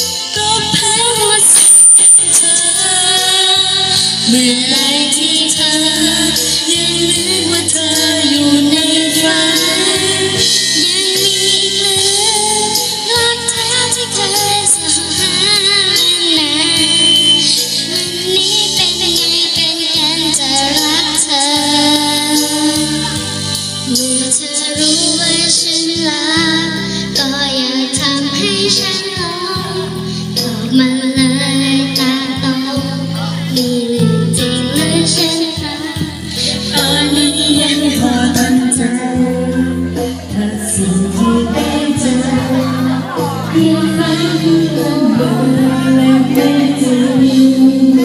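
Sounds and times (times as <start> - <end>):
woman and girl singing: 0.0 - 23.2, 23.9 - 36.1, 36.7 - 48.0
karaoke backing track: 0.0 - 48.0.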